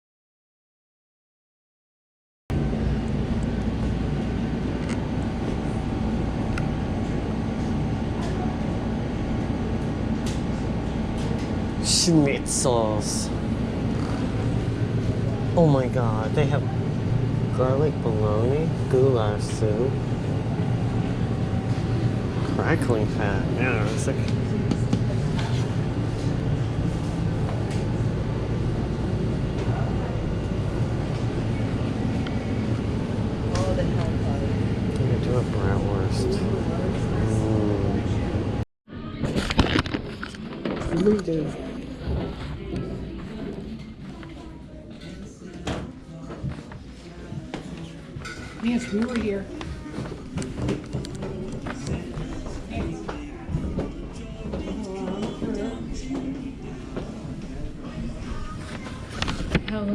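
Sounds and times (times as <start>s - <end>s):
faint constant hum: 2.5s - 59.9s
low room rumble: 2.5s - 59.9s.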